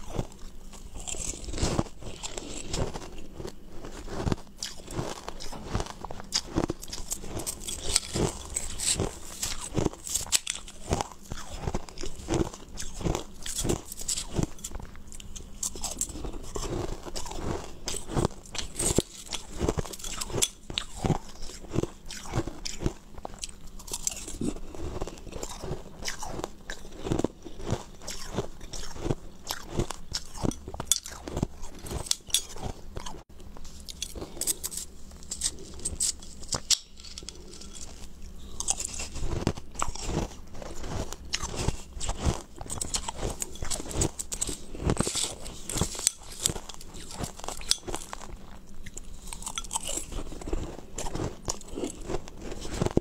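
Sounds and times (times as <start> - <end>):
person crunching ice: 0.0 - 33.2, 33.8 - 53.0.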